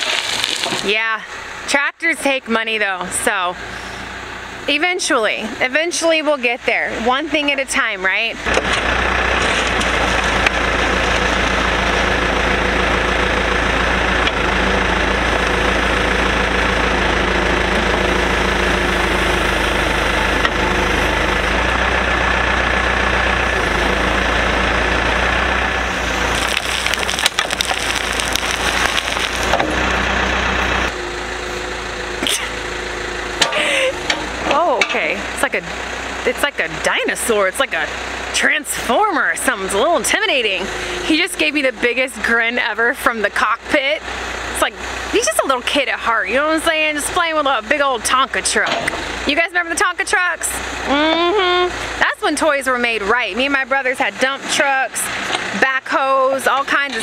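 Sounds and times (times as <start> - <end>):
backhoe digging dirt and gravel: 0.0 - 57.0
diesel engine running: 0.0 - 57.0.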